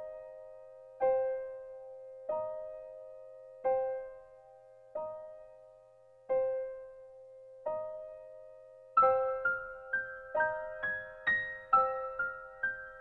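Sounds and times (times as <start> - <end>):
slow keyboard melody: 0.0 - 13.0.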